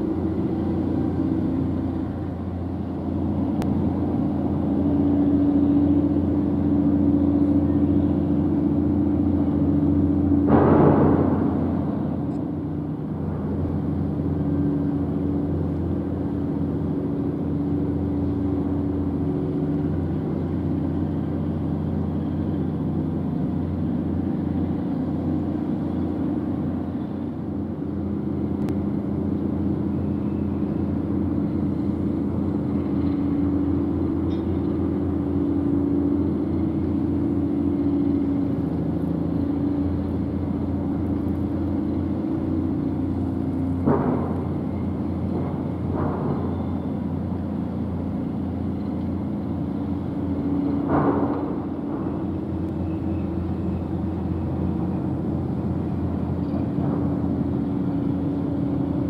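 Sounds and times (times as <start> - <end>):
ship diesel engines rumbling: 0.0 - 59.0.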